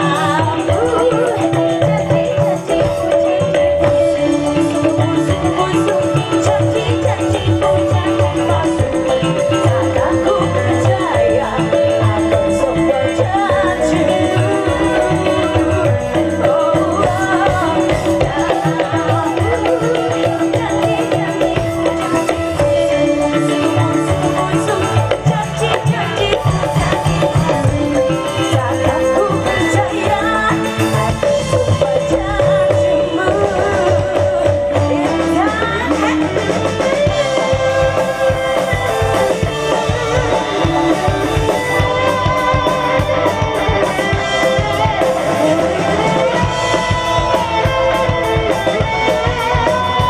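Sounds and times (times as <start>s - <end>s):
drum kit: 0.0s - 50.0s
guitars: 0.0s - 50.0s
hand drum: 0.0s - 50.0s
live band music: 0.0s - 50.0s
shaker-like percussion: 0.0s - 50.0s
woman singing into a microphone: 0.0s - 50.0s.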